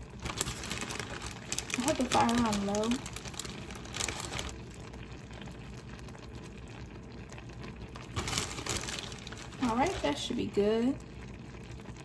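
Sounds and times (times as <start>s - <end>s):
noodles bubbling in a pan: 0.0s - 12.0s.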